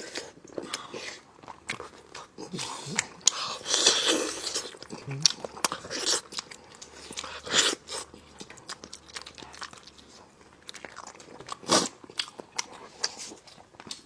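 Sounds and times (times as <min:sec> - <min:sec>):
person chewing meat: 0:00.0 - 0:14.0.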